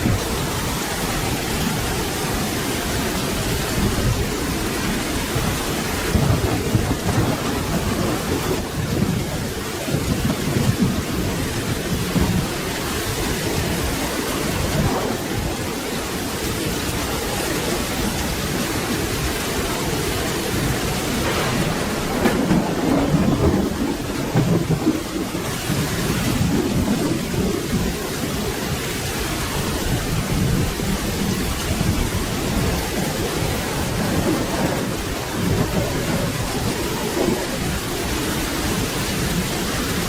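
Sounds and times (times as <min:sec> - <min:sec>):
rolling thunder: 0:00.0 - 0:40.0
steady rain: 0:00.0 - 0:40.0.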